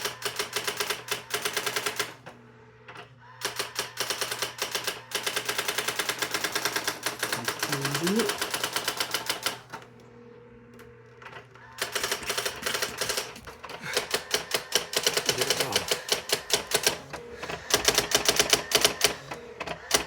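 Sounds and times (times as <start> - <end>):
electronic typewriter typing: 0.0 - 2.1, 3.4 - 9.6, 11.8 - 20.0.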